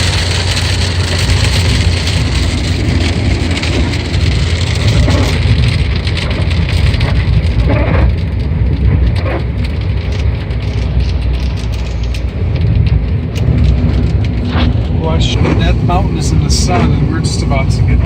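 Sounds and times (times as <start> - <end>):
car road rumble: 0.0 - 18.0
hiss of rain: 0.0 - 18.0
raindrops ticking on car: 0.0 - 18.0.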